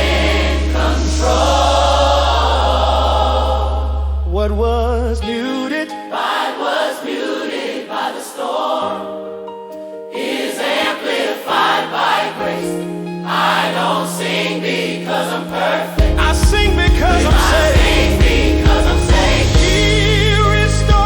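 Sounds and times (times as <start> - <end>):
choir singing worship song: 0.0 - 4.4, 5.2 - 9.3, 10.1 - 21.0.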